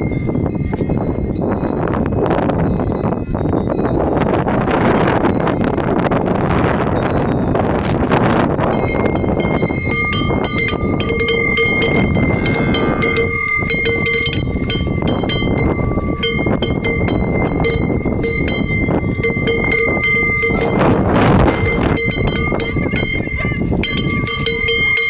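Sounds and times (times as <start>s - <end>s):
cowbells ringing: 0.0s - 25.0s
wind rumble on microphone: 0.0s - 25.0s.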